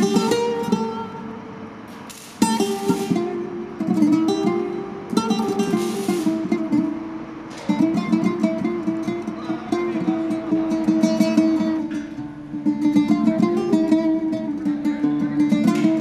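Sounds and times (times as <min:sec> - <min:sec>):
acoustic guitar plucked and strummed: 0:00.0 - 0:16.0.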